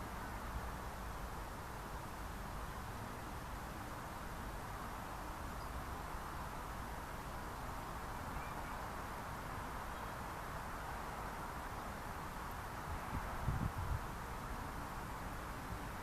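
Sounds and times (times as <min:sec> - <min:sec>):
wind rustling dry grass: 0:00.0 - 0:16.0.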